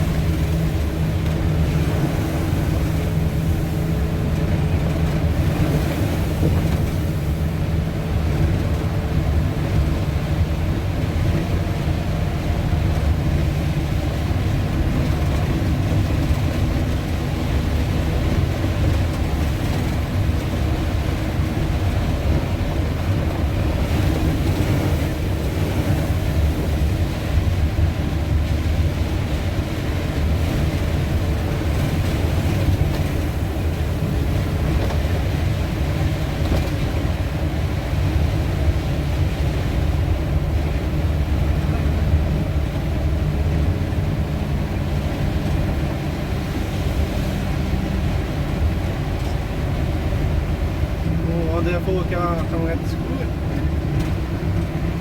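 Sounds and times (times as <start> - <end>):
engine hum: 0.0 - 55.0
road noise rumble: 0.0 - 55.0.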